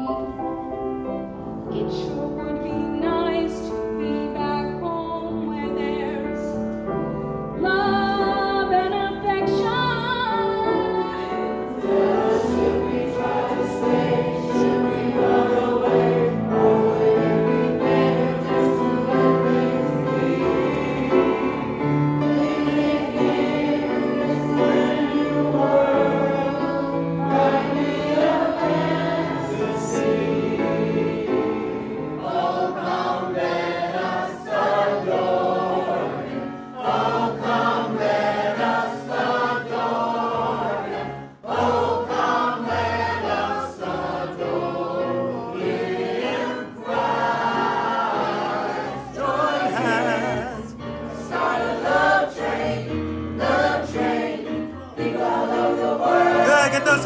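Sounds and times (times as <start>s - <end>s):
piano accompaniment: 0.0s - 57.0s
mixed choir singing: 7.8s - 57.0s.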